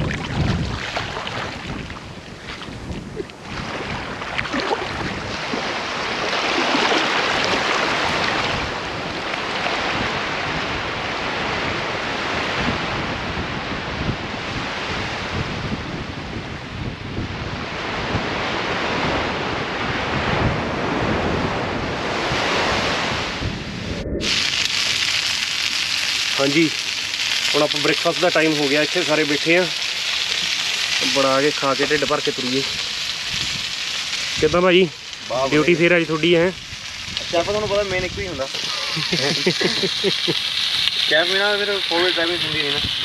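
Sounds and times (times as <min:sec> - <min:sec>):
surf washing over sand: 0:00.0 - 0:43.0
wind buffeting microphone: 0:00.0 - 0:43.0.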